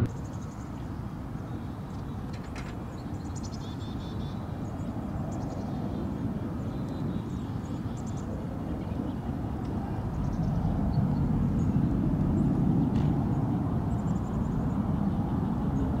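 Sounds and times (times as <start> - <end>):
distant airliner engines rumbling: 0.0 - 16.0.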